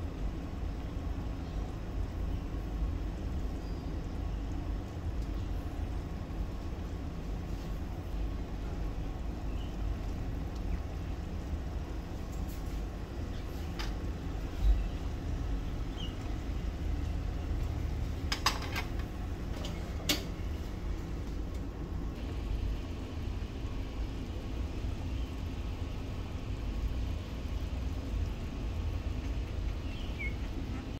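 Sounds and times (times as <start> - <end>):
low kitchen rumble: 0.0 - 30.9.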